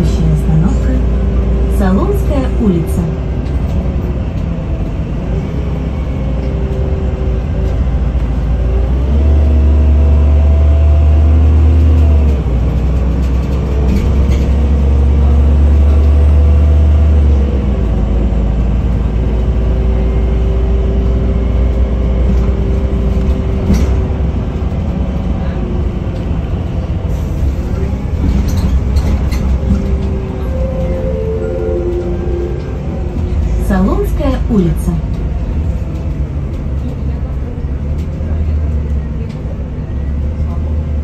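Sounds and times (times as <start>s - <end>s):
bus engine drone: 0.0s - 41.0s
road noise: 0.0s - 41.0s.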